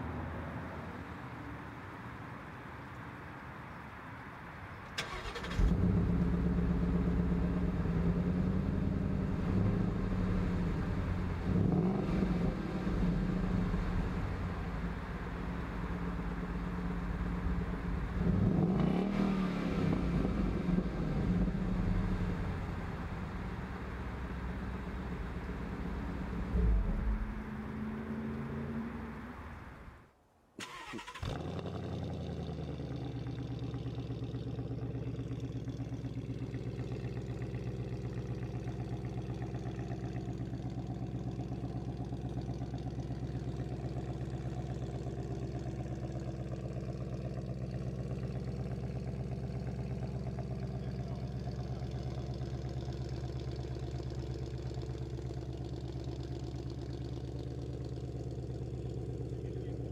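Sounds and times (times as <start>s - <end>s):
car engine starting and idling: 4.8s - 59.9s.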